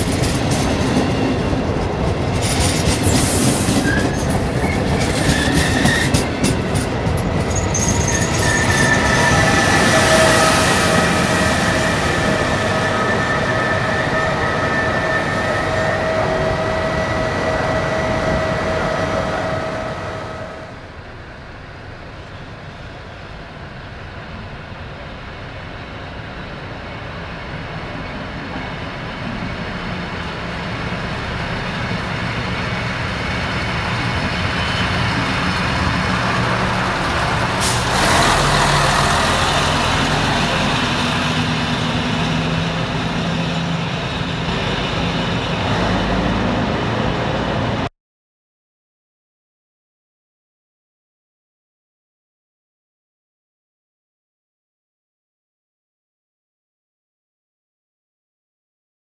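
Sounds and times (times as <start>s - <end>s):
diesel railcar engine running: 0.0s - 47.9s.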